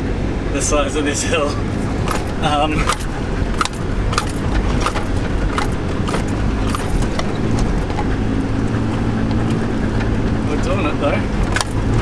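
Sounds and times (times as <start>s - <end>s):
van engine rumbling under load: 0.0s - 12.0s
knocks and rattles of bouncing van: 1.5s - 12.0s.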